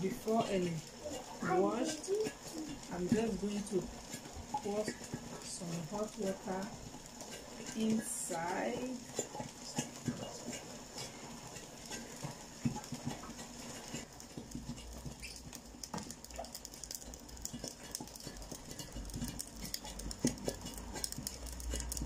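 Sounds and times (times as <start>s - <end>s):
wooden spatula stirring leaves: 0.0s - 22.0s.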